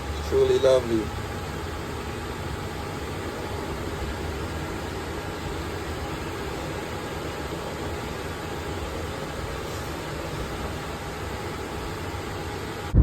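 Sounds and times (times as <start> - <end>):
car rumble and hiss: 0.0 - 13.0.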